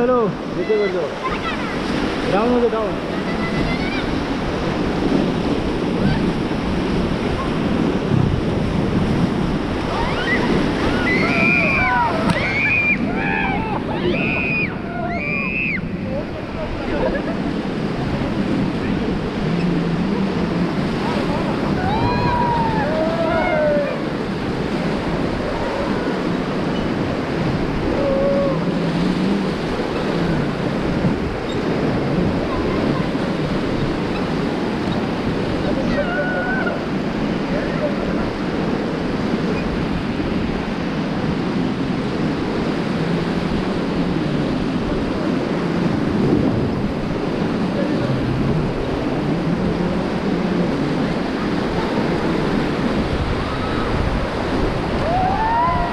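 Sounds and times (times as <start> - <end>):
whitewater churning: 0.0 - 55.9
wind buffeting microphone: 0.0 - 55.9.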